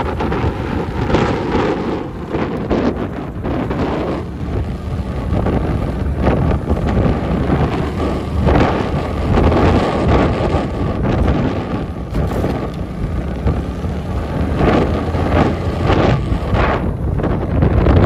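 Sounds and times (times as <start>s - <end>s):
motorcycle engine rumble: 0.0s - 18.0s
road noise: 0.0s - 18.0s
wind buffeting microphone: 0.0s - 18.0s.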